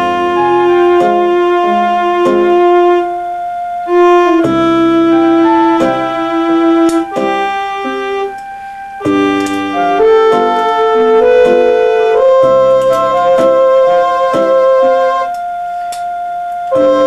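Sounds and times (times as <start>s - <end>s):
electronic organ tune with chords: 0.0s - 17.0s.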